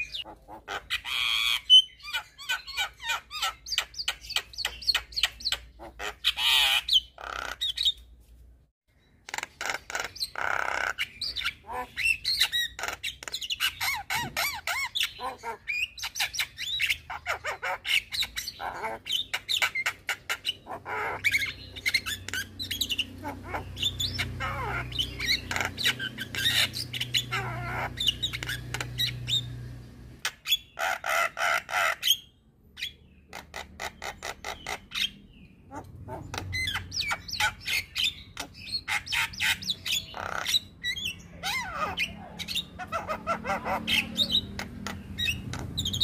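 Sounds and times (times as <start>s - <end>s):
bird chattering song: 0.0s - 8.1s, 9.0s - 46.0s.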